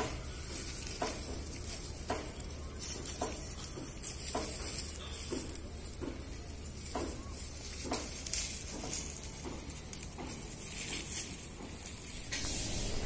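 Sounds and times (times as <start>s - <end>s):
goats biting stems: 0.0s - 12.4s
dry grass and twigs rustling: 0.0s - 13.0s.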